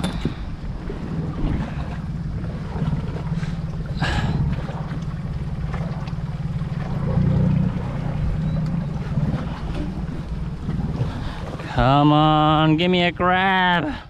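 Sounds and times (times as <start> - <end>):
wind on microphone: 0.0 - 12.8
motor running low: 0.1 - 11.8.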